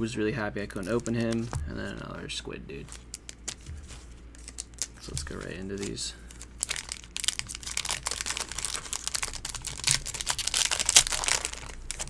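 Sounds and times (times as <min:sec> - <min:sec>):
foil wrapper crinkling and tearing: 0:00.7 - 0:02.1, 0:02.8 - 0:12.0.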